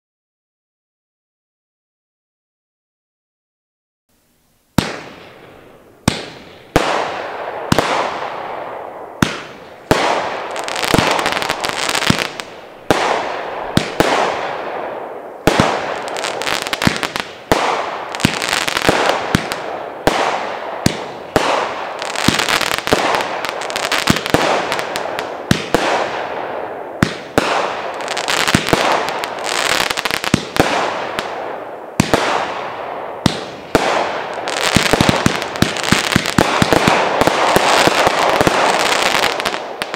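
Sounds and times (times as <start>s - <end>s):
firework bursts with hissing stars: 4.2s - 39.9s.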